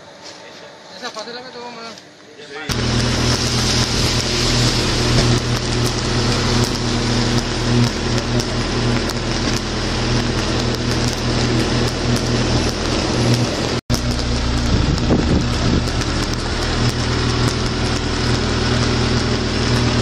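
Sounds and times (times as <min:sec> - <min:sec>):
electrical arc buzzing and crackling: 0:01.0 - 0:20.0.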